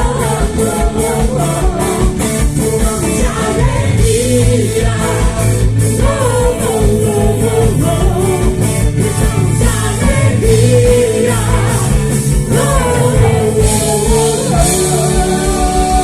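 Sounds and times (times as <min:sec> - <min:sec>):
live gospel band music: 0:00.0 - 0:16.0.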